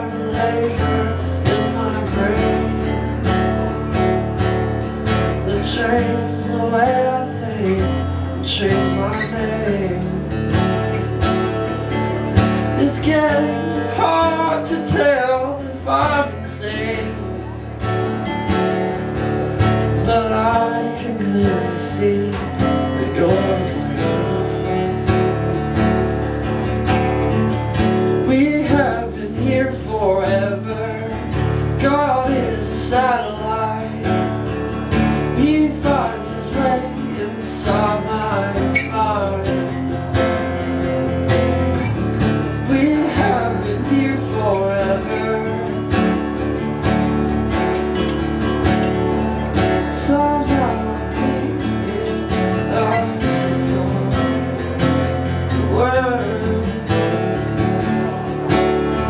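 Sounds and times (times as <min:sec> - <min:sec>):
man singing: 0:00.0 - 0:03.7, 0:05.0 - 0:17.8, 0:19.7 - 0:25.8, 0:27.8 - 0:46.6, 0:49.5 - 0:59.0
acoustic guitars strummed and picked: 0:00.0 - 0:59.0.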